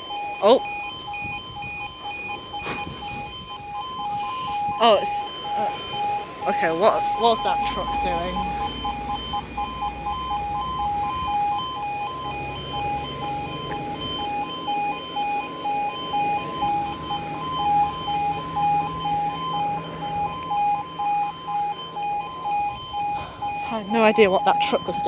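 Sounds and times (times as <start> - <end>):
two-tone crossing alarm: 0.0 - 25.0
vehicle engine humming: 0.0 - 25.0.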